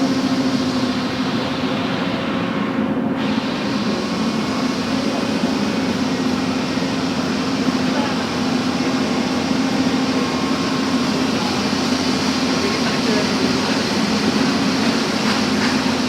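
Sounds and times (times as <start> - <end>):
backhoe engine running: 0.0 - 16.0.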